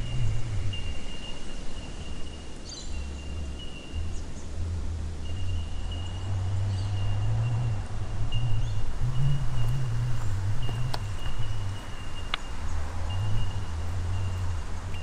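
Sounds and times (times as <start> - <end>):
low rumble: 2.9 - 15.0.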